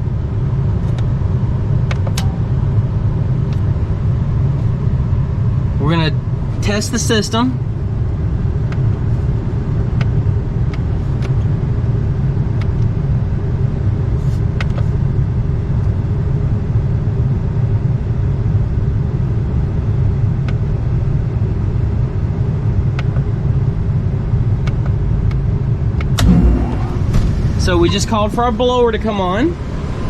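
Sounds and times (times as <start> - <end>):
hvac mechanical rumble: 0.0 - 30.0.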